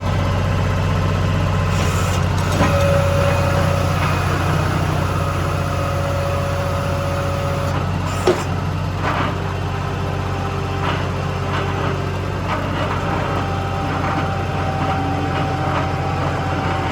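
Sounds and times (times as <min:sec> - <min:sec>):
engine running: 0:00.0 - 0:16.9.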